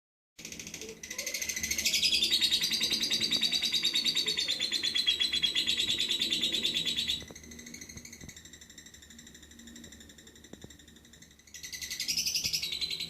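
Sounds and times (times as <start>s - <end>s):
bird chatter: 0.4s - 13.0s
bird trilling: 0.4s - 13.0s.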